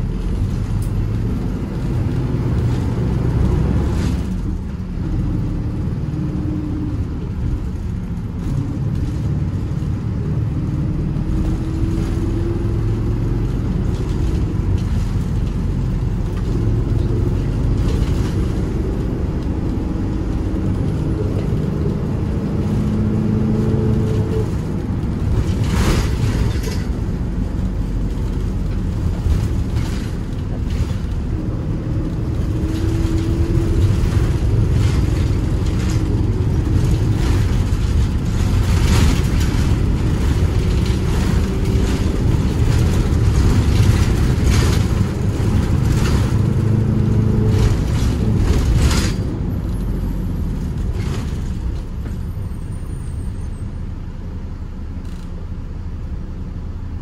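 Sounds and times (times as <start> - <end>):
minibus engine and road rumble: 0.0 - 57.0.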